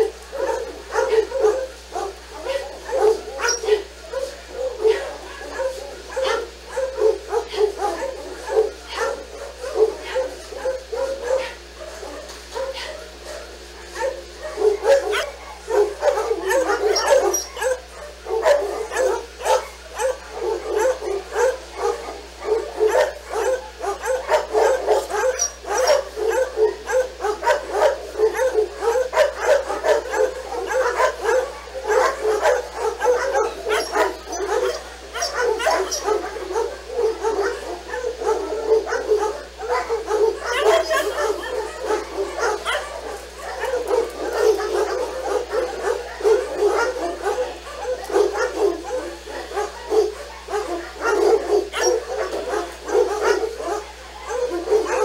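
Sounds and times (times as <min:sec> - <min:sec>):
dogs yapping: 0:00.0 - 0:55.0.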